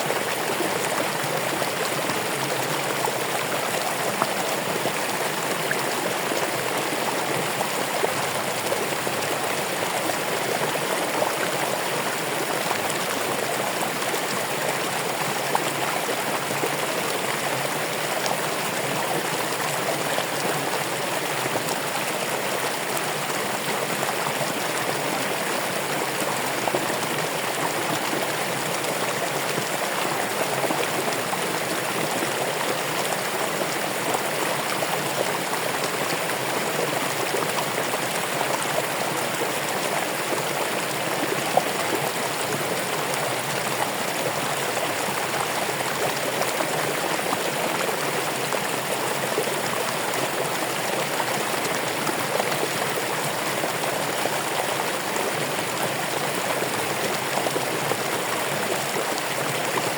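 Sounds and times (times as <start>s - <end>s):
water babbling: 0.0s - 59.9s.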